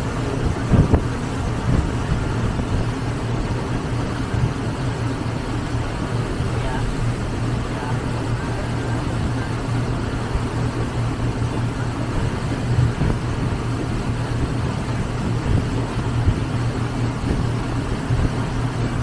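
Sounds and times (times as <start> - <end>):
boat engine droning: 0.0 - 19.0
rushing water: 0.0 - 19.0
rushing wind: 0.0 - 19.0.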